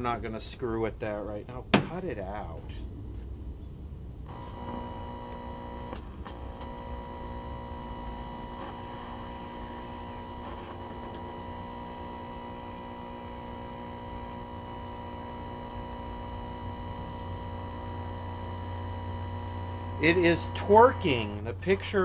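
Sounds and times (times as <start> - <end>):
television electrical hum: 4.2 - 22.0
steady mid-pitched tone: 4.3 - 22.0.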